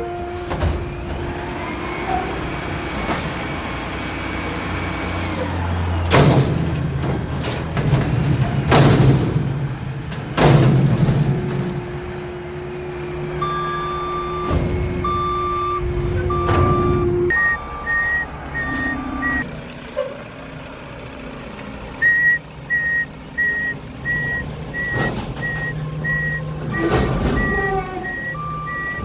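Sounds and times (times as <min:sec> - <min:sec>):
truck backup alarms beeping: 0:00.0 - 0:20.4, 0:21.2 - 0:29.0
truck diesel engine running: 0:00.0 - 0:29.0.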